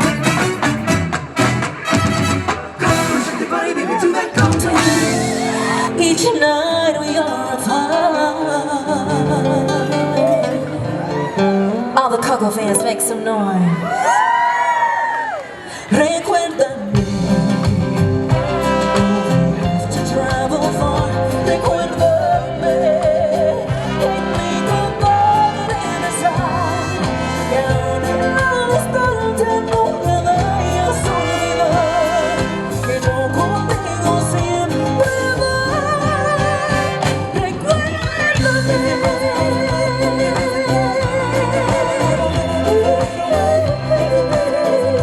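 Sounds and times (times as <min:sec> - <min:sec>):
live band with singer: 0:00.0 - 0:45.0.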